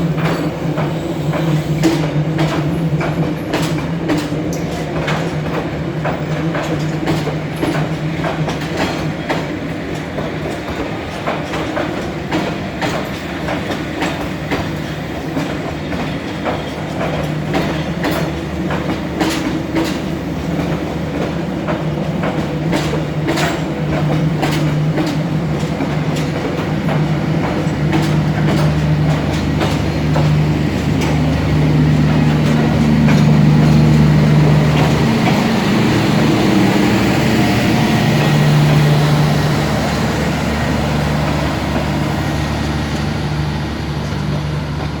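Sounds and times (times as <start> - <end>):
train wheels clacking over rail joints: 0.0 - 45.0.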